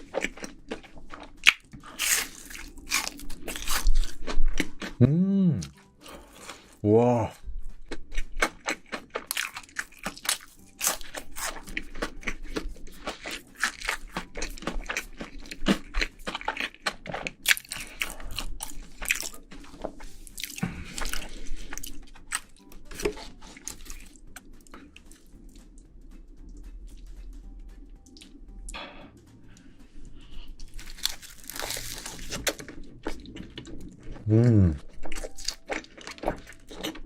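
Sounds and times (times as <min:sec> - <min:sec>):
chewing crunchy food: 0:00.0 - 0:05.0, 0:05.6 - 0:06.8, 0:07.4 - 0:37.0.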